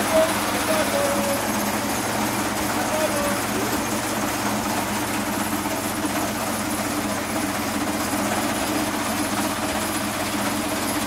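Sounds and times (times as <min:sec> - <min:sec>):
machine drone: 0:00.0 - 0:11.0.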